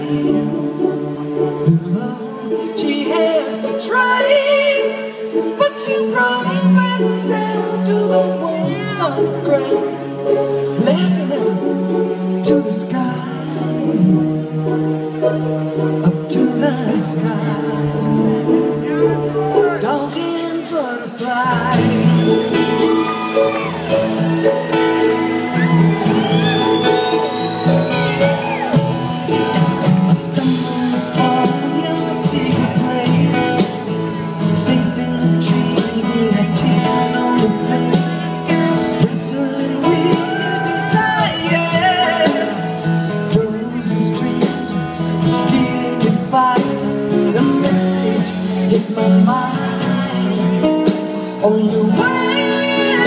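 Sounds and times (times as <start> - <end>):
live band playing folk-rock ballad: 0.0 - 53.0
person singing: 0.0 - 53.0.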